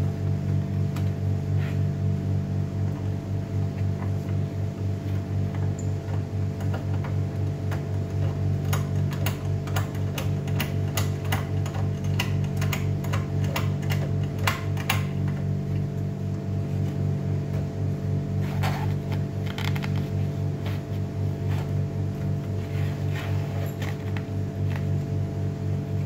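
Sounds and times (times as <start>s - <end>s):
low pulsing hum: 0.0s - 26.0s.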